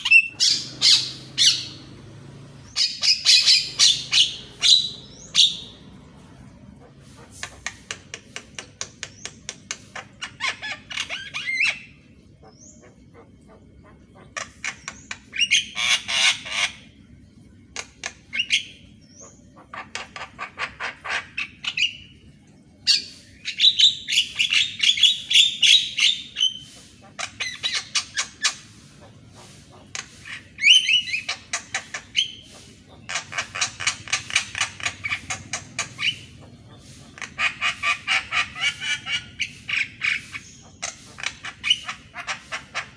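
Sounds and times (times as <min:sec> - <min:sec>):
bird singing chattering song: 0:00.0 - 0:42.9.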